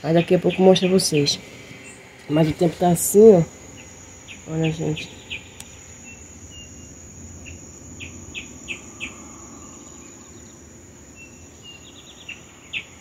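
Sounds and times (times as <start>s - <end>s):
insects trilling: 0.0s - 13.0s
short sharp insect chirps: 0.5s - 13.0s.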